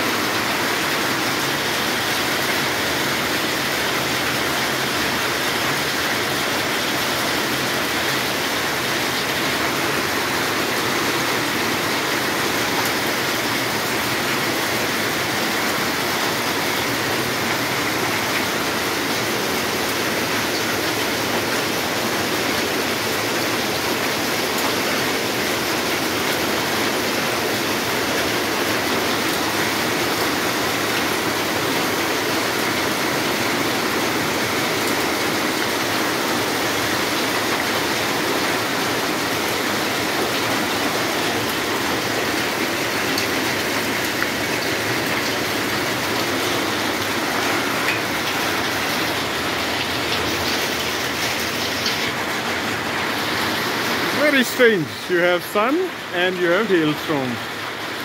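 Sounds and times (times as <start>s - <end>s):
hail and rain on roofs: 0.0s - 58.0s.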